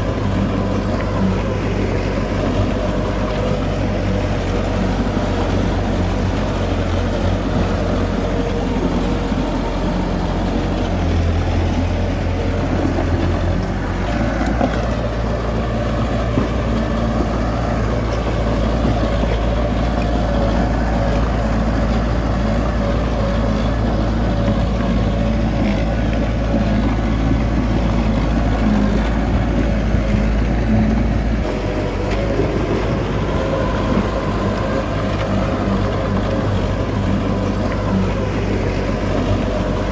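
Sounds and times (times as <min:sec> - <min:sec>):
diesel engine of earthmoving machinery: 0:00.0 - 0:39.9.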